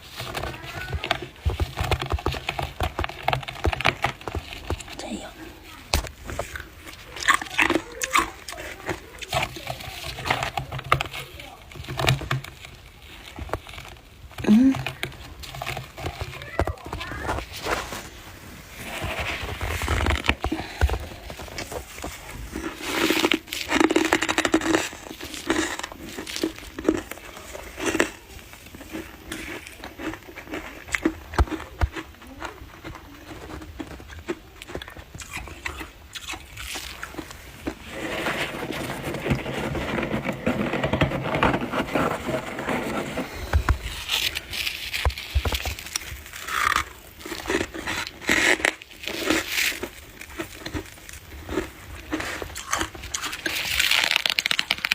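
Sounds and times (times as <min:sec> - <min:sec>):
chewing crunchy frost: 0:00.0 - 0:54.9.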